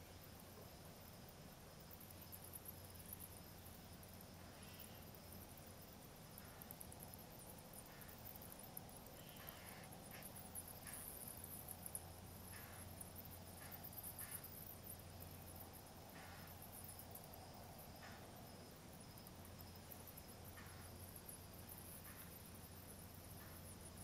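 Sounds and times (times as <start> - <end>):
pulsing insect chorus: 0.0 - 24.0.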